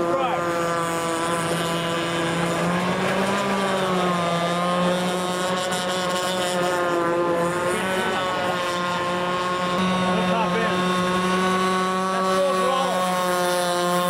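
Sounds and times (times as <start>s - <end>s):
model boat engine running: 0.0s - 14.0s.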